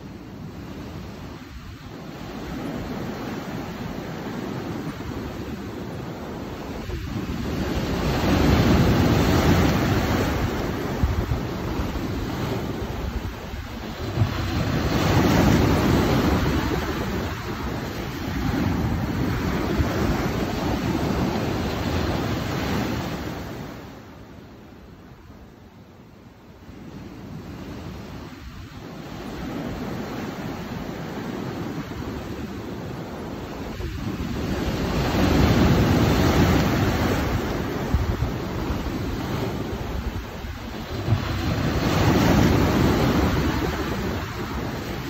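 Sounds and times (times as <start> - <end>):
ocean surf breaking on rocks: 0.0 - 24.8, 26.7 - 45.0.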